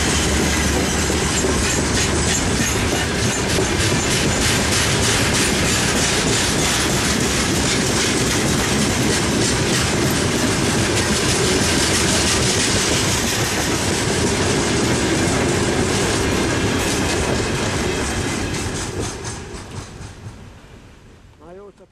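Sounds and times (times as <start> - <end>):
wheels clicking over rail joints: 0.0 - 20.5
train wagons rolling: 0.0 - 20.9.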